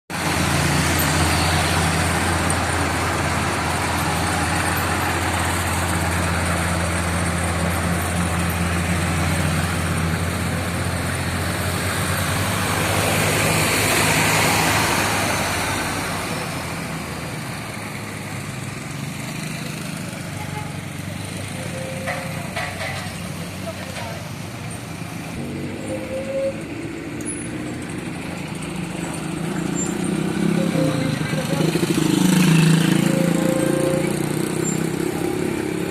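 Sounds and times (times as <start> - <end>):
heavy diesel engine humming: 0.1 - 35.9.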